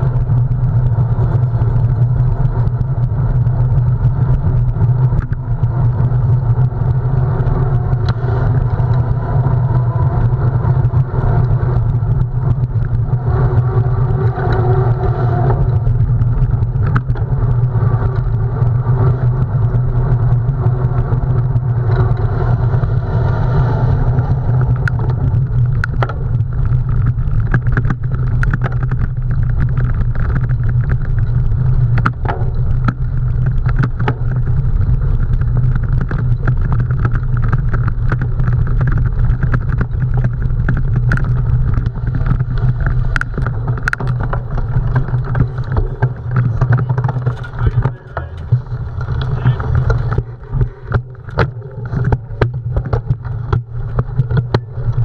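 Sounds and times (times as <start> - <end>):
bicycle clicks and rattles: 0.0 - 55.0.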